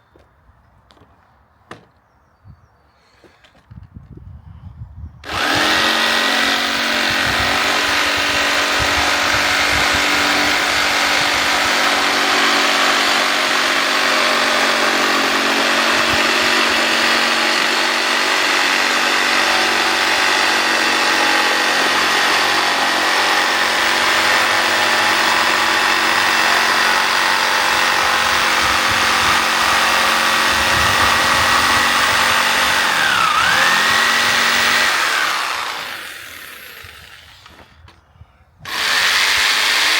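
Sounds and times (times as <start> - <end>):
power tool motor cutting wood: 5.2 - 37.8, 38.6 - 39.9.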